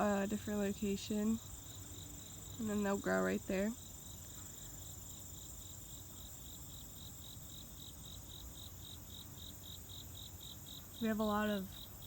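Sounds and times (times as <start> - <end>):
high-pitched insect trill: 0.0 - 12.0
insects chirping: 0.0 - 12.0.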